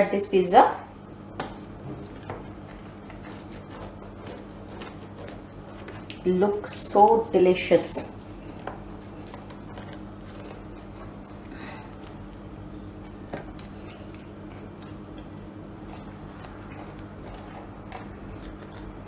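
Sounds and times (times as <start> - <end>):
steady low hum: 0.0 - 19.0
pizza cutter rolling through pizza: 1.5 - 19.0.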